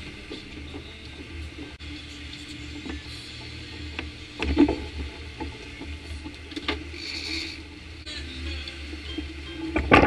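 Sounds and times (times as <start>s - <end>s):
outboard motors droning: 0.0s - 10.0s.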